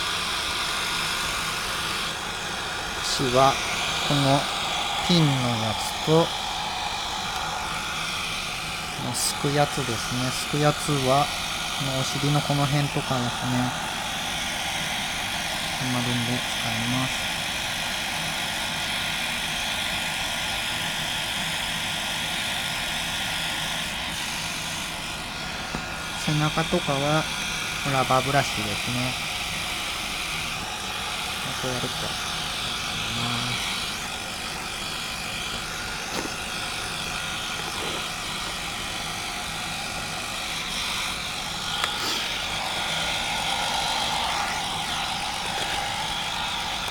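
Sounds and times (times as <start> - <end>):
hair dryer blowing: 0.0 - 46.9.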